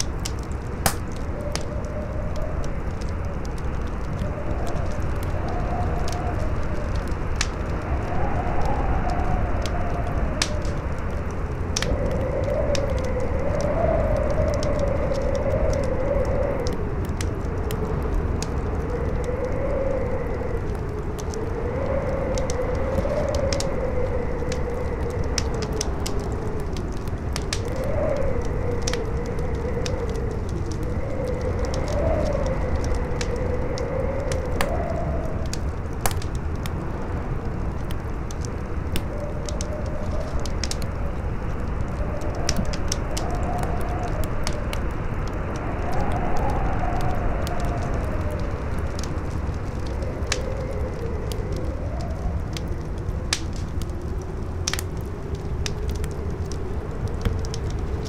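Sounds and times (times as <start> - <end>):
campfire crackling and popping: 0.0 - 58.0
wind howling: 0.0 - 58.0.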